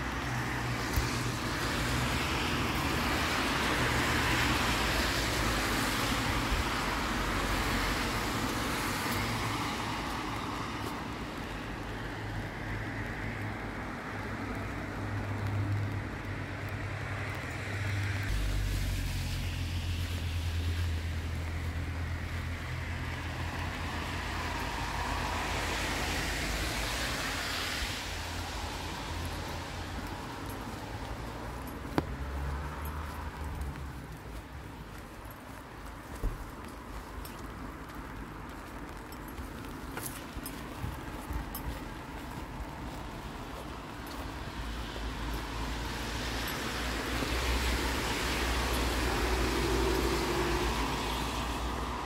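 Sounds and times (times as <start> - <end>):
cars passing on road: 0.0 - 52.0
low traffic rumble: 0.0 - 52.0.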